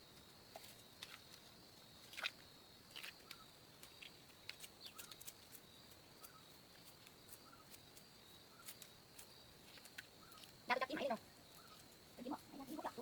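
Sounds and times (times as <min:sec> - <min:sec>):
small chirps: 0:00.5 - 0:13.0.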